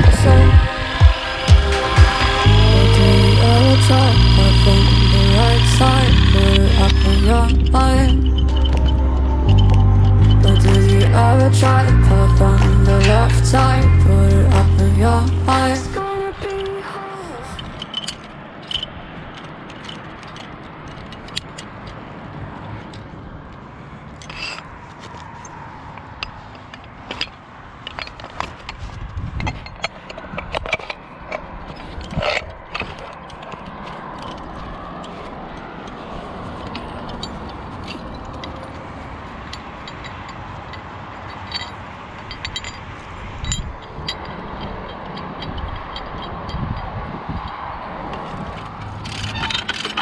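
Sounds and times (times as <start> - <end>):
steady background rush: 0.0 - 50.0
metal clinks and scrapes: 0.8 - 23.3, 24.0 - 50.0.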